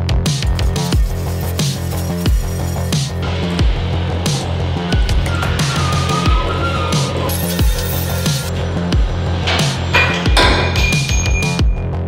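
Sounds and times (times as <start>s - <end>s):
music with heavy driving beat: 0.0s - 12.0s.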